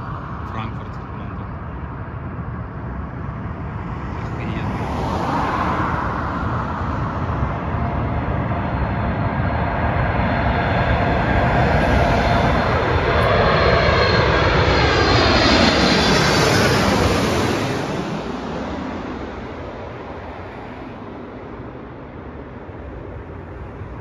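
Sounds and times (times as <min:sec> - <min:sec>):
jet engines overhead: 0:00.0 - 0:24.0.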